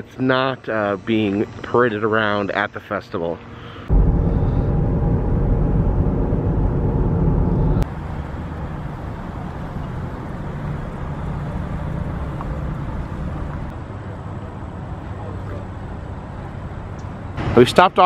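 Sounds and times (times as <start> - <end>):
outdoor background noise: 0.0 - 18.0
car road and engine noise: 3.4 - 18.0.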